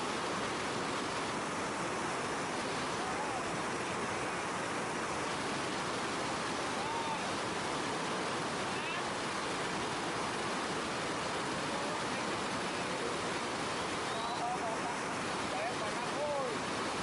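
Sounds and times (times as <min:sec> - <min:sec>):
water pouring over a dam: 0:00.0 - 0:17.0.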